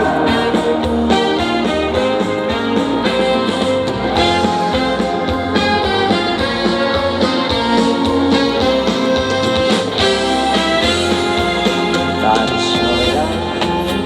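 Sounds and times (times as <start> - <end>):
pop song over sound system: 0.0 - 14.0.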